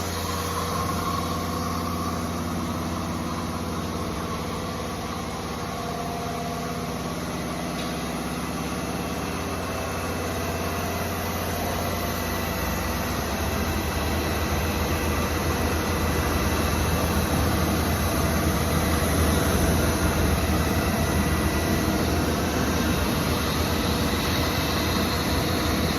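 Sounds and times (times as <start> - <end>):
air compressor humming: 0.0 - 25.9.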